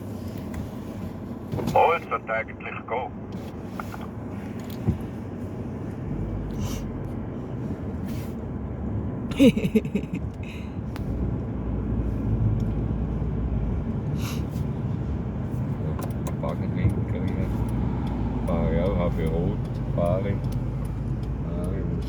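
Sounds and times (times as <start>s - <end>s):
road vehicle rumbling: 0.0s - 22.0s.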